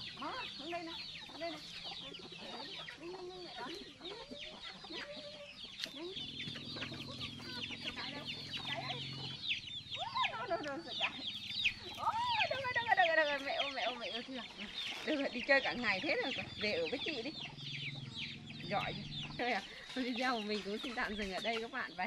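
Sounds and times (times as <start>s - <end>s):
chicks peeping: 0.0s - 22.0s
hen clucking: 0.0s - 22.0s.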